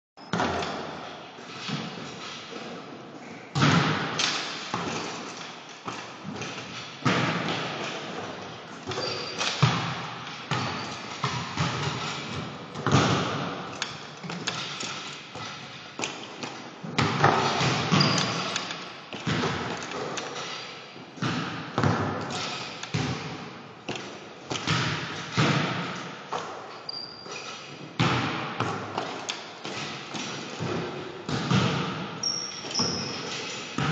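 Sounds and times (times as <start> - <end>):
basketballs bouncing on wooden floor: 0.2 - 1.0, 3.6 - 33.9
basketball striking rim and backboard: 3.6 - 5.2, 5.9 - 20.6, 21.2 - 26.6, 28.0 - 33.9.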